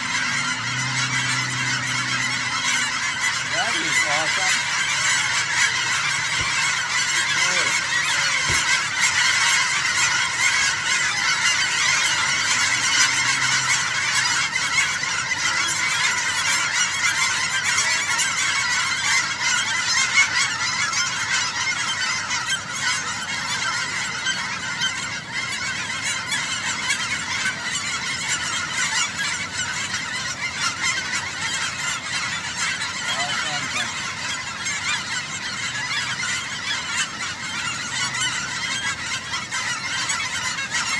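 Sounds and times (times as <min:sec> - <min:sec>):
geese honking: 0:00.0 - 0:40.9.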